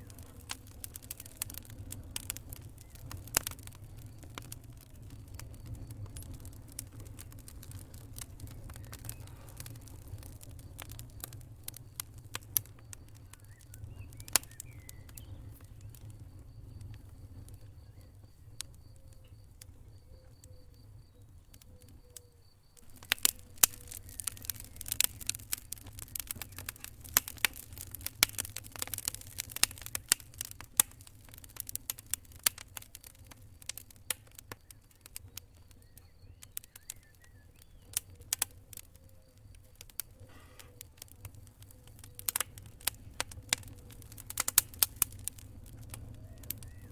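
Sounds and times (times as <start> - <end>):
pops and snaps from fire: 0.0 - 46.9
wood fire crackling: 0.0 - 46.9.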